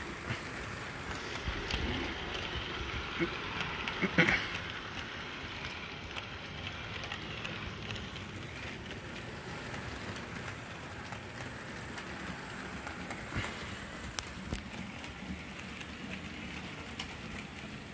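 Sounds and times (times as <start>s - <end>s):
model train wheels rattling: 0.0s - 17.9s.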